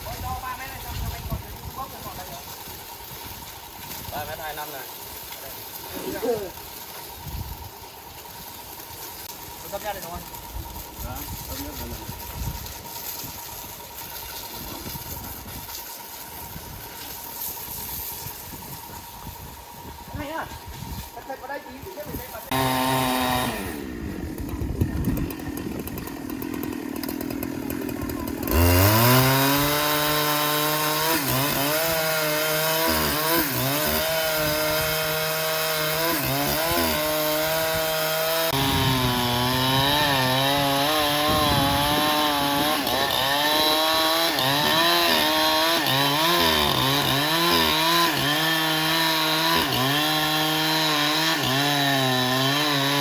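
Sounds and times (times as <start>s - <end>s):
saw cutting through log: 0.0s - 53.0s.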